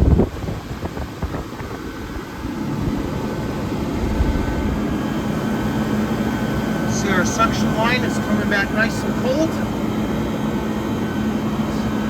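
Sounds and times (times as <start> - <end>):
air conditioner fan rushing: 0.0 - 12.0
low compressor hum: 0.0 - 12.0.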